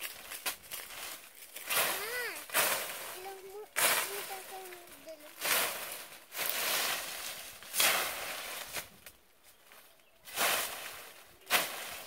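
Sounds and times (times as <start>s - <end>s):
blade swishing through stiff leaves: 0.0s - 12.0s.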